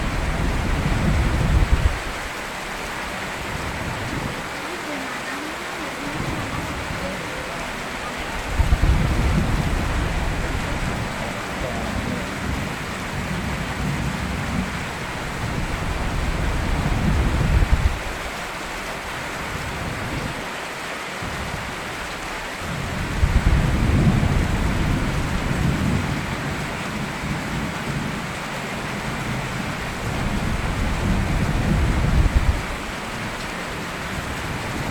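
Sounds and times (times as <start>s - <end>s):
low rolling thunder: 0.0s - 4.6s, 6.0s - 18.3s, 22.6s - 34.9s
steady rain falling: 0.0s - 34.9s.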